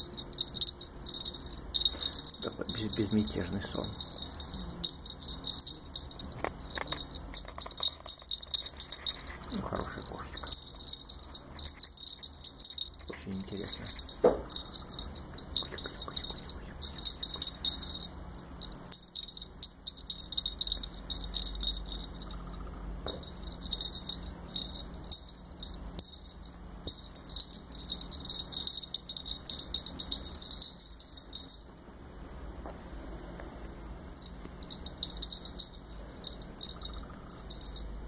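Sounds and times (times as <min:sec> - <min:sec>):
high rapid chirping: 0:00.0 - 0:31.6.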